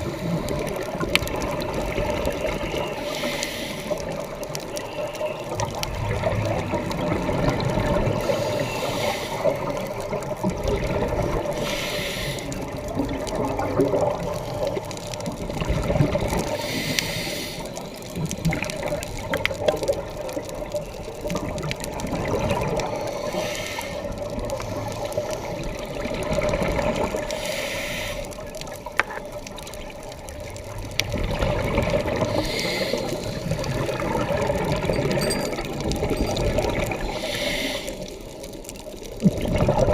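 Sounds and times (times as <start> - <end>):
low water rumble: 0.0 - 39.9
underwater breathing bubbles: 0.0 - 39.9.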